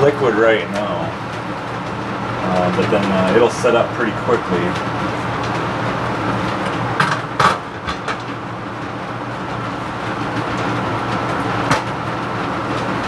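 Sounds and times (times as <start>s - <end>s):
blower humming and hissing: 0.0s - 13.0s.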